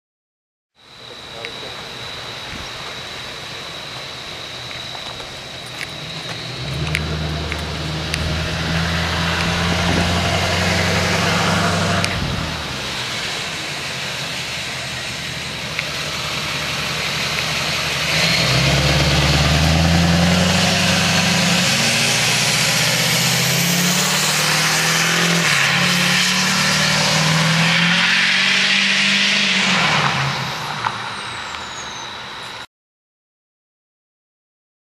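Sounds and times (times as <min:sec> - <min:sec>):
diesel van engine under load: 0:01.0 - 0:32.6.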